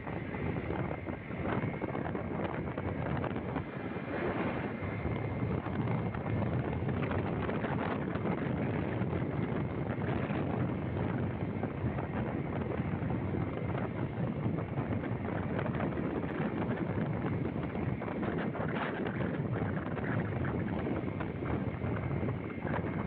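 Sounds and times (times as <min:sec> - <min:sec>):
wind roaring over microphone: 0:00.0 - 0:23.0.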